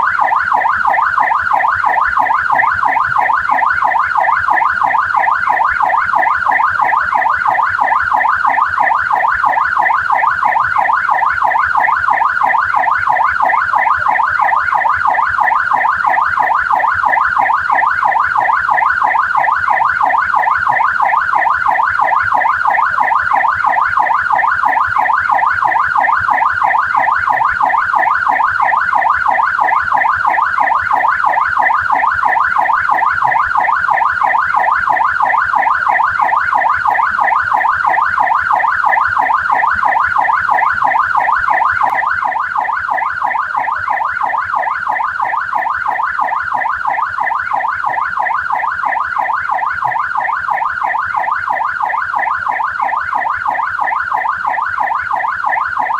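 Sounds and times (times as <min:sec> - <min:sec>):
police siren yelping: 0:00.0 - 0:55.9.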